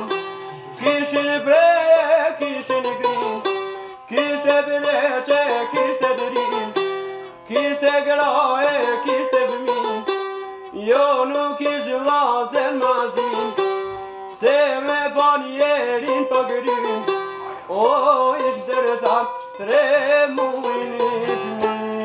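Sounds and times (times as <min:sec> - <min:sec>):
plucked lutes folk melody: 0:00.0 - 0:22.0.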